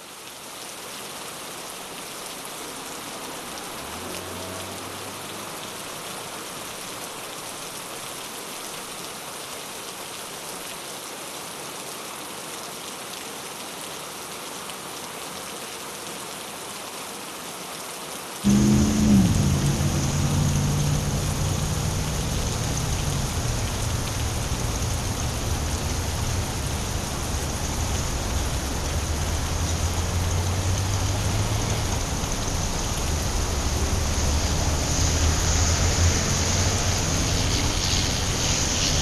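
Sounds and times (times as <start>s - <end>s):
rain on a wet street: 0.0s - 39.0s.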